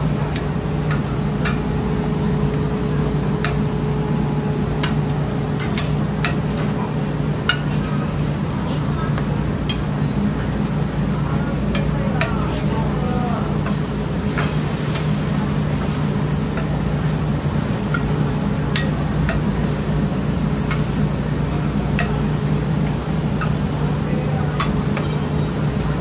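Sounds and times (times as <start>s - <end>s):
food sizzling on griddle: 0.2s - 26.0s.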